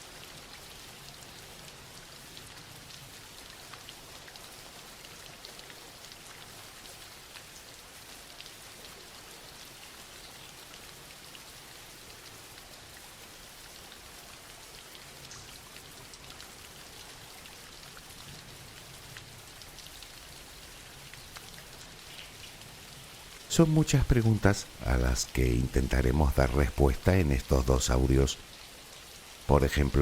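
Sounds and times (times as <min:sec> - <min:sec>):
soft rain falling: 0:00.0 - 0:30.0.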